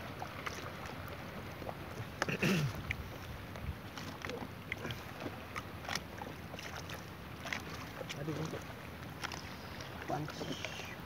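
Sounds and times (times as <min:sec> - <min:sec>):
sea noise: 0:00.0 - 0:11.0
wind: 0:00.0 - 0:11.0.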